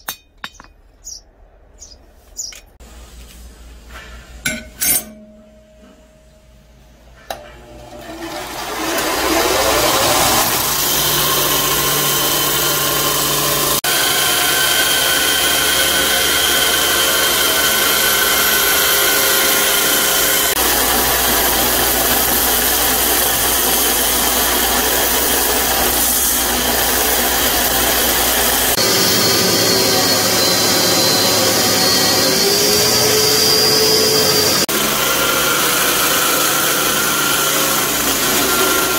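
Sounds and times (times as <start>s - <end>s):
abrasive belt grinding steel: 7.3s - 38.9s
belt grinder motor: 7.6s - 38.9s.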